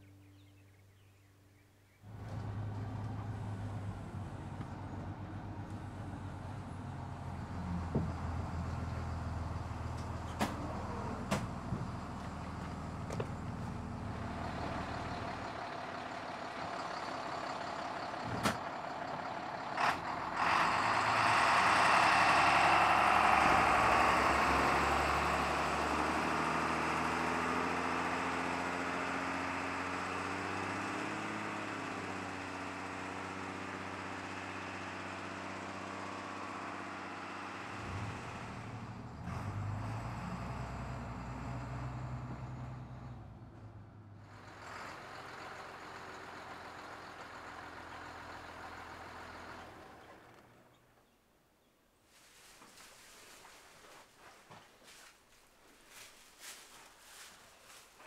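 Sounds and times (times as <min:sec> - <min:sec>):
bus engine running: 0:02.1 - 0:51.1.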